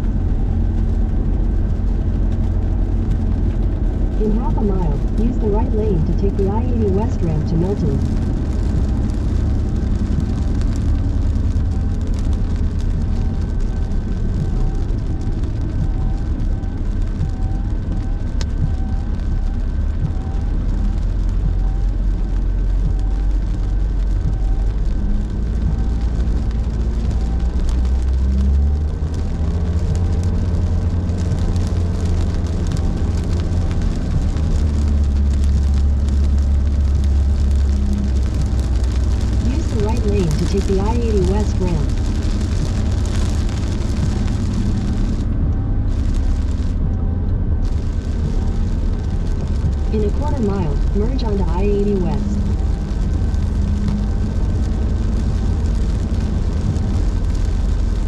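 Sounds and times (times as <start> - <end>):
car road noise in rain: 0.0 - 58.0.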